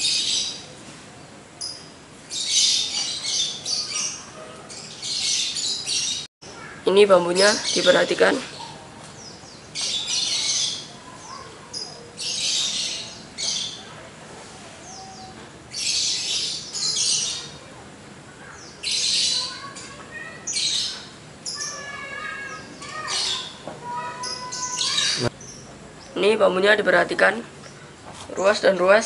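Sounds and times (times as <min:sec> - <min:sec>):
birds chirping and squawking: 0:00.0 - 0:00.8, 0:01.6 - 0:14.0, 0:14.8 - 0:17.7, 0:18.3 - 0:29.0.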